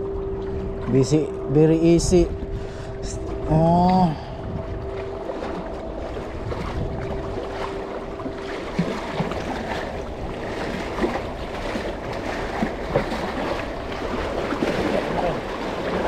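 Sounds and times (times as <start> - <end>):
faint steady hum: 0.0 - 16.0
sea noise: 0.0 - 16.0
wind on microphone: 0.0 - 16.0.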